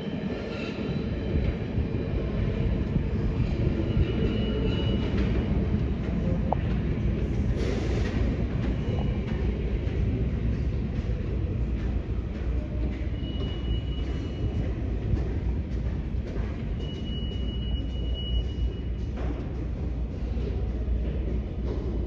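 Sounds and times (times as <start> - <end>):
subway train rumbling on rails: 0.0 - 22.0.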